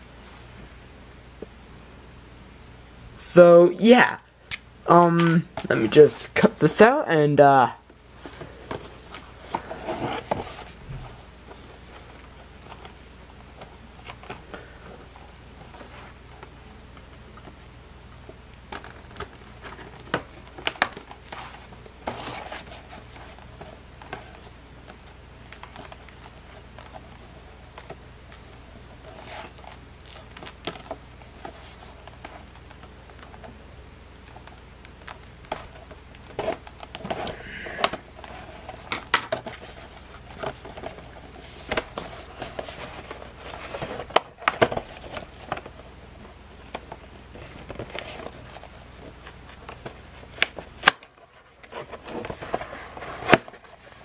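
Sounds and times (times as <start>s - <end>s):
cardboard packaging rustling: 8.1s - 54.0s.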